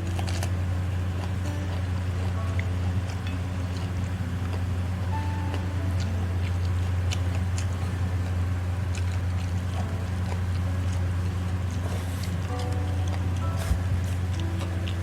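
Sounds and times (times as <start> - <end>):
person chewing and eating: 0.0 - 15.0
steady low hum: 0.0 - 15.0.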